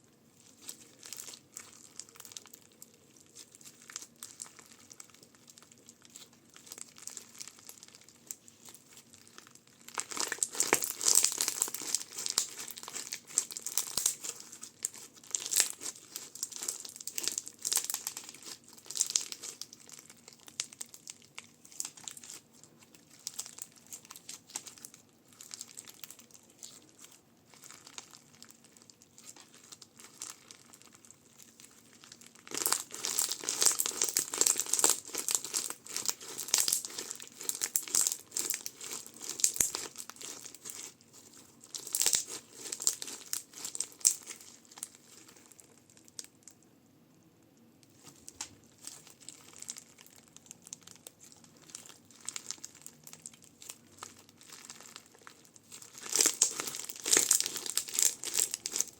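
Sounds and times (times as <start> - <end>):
crunchy slime crackling: 0.0 - 46.7, 47.8 - 58.9.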